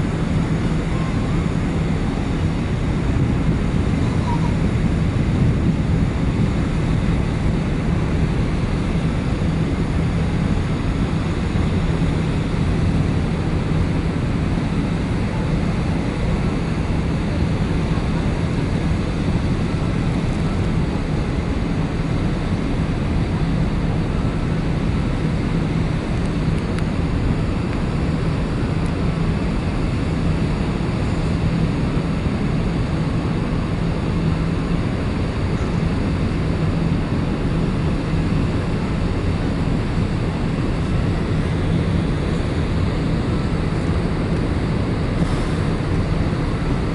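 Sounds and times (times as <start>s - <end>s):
ferry engines droning: 0.0s - 46.9s.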